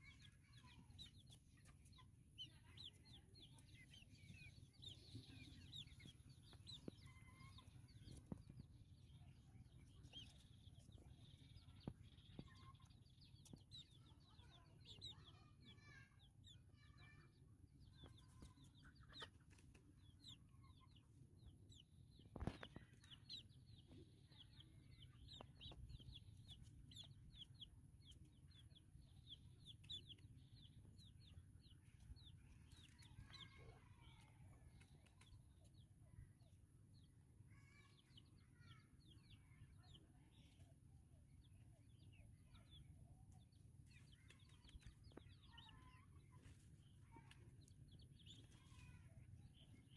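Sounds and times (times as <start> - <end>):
high-pitched chick peeping: 0.0 - 49.9.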